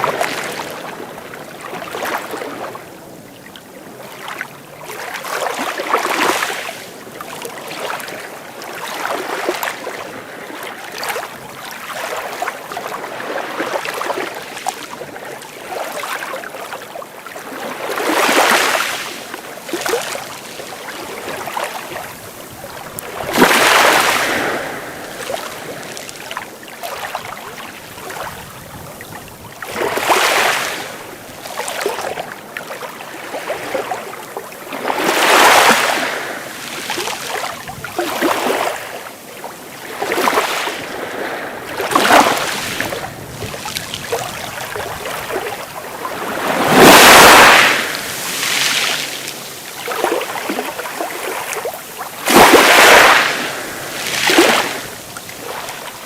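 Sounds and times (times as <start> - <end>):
waves washing up a beach: 0.0 - 56.0
surf surging: 4.0 - 56.0.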